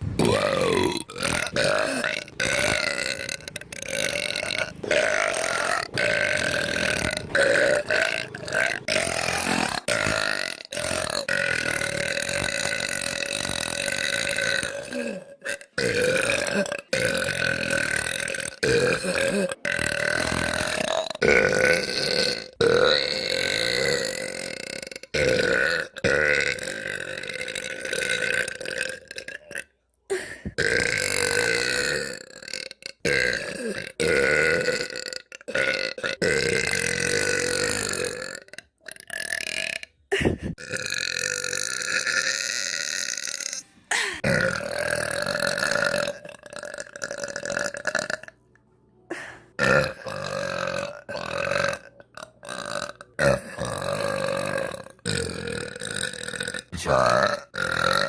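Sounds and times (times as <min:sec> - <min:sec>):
girl burping: 0:00.2 - 0:48.3.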